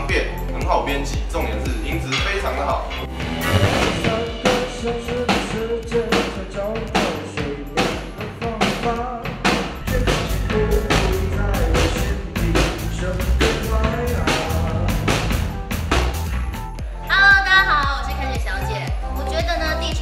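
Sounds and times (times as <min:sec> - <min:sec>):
drum kit beat: 0:00.0 - 0:20.0
heavy bass: 0:00.0 - 0:20.0.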